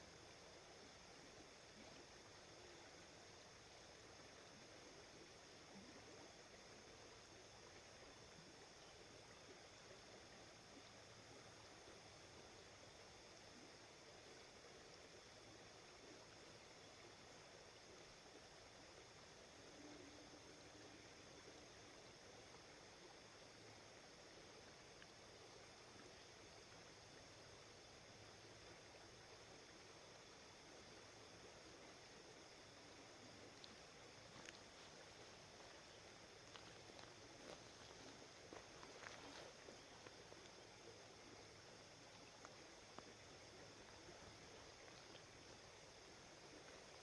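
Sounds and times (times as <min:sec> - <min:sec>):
river water flowing: 0:00.0 - 0:47.0.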